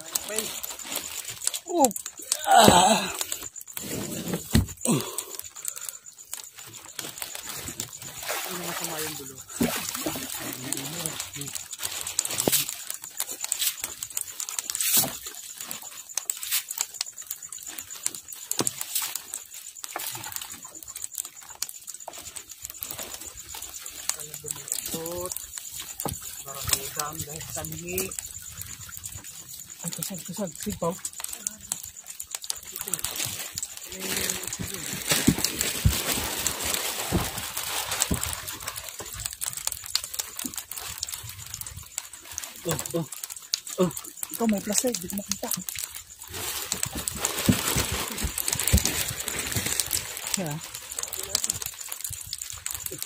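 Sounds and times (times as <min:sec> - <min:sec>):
water splashing and dripping: 0:00.0 - 0:53.0
net clicking on bamboo rail: 0:09.5 - 0:53.0.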